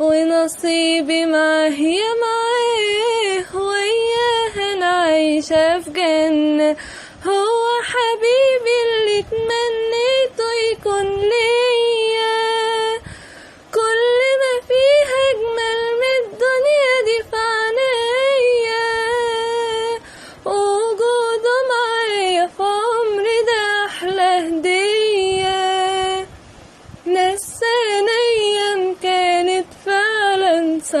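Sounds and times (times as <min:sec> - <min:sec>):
young woman singing: 0:00.0 - 0:31.0.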